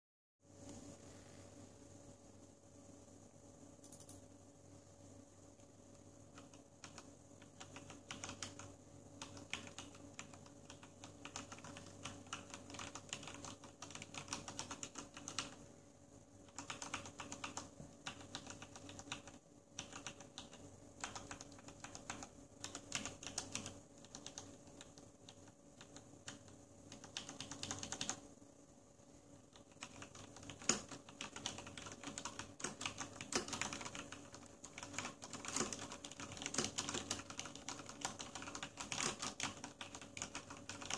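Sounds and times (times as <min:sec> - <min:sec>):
faint steady hum: 0:00.4 - 0:40.9
mechanical keyboard typing: 0:03.8 - 0:04.2, 0:06.3 - 0:15.6, 0:16.5 - 0:28.2, 0:29.5 - 0:40.9.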